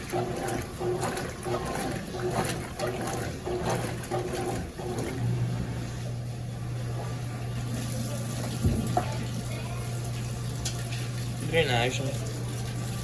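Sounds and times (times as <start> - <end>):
washing machine drain pump humming: 0.0 - 13.0.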